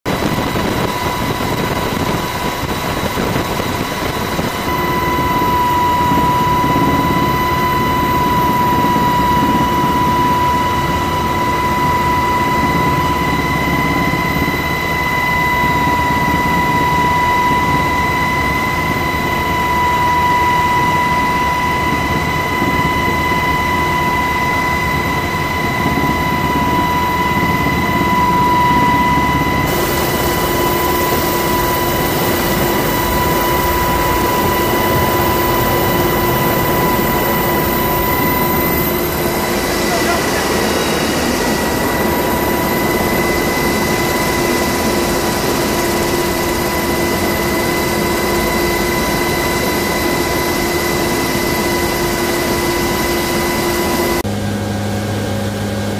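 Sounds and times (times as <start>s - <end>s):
turboprop engines droning: 0.1s - 55.9s.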